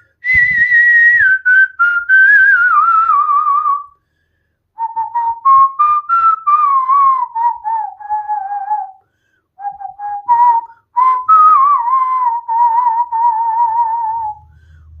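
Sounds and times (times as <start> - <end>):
person whistling a tune: 0.0 - 4.0, 4.8 - 15.0.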